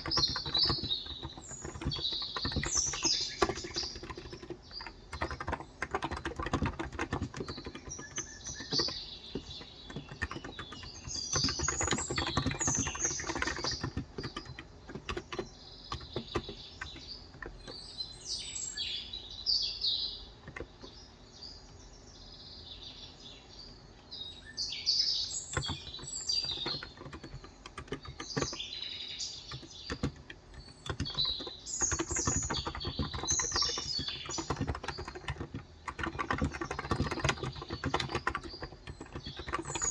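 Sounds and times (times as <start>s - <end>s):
keyboard typing: 0.0s - 17.9s, 20.4s - 21.0s, 25.4s - 28.8s, 29.4s - 39.9s
small birds chirping: 0.0s - 39.9s.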